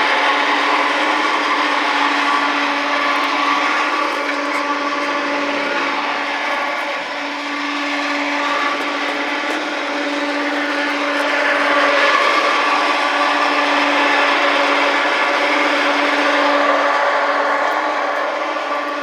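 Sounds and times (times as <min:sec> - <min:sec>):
motor whining: 0:00.0 - 0:19.0.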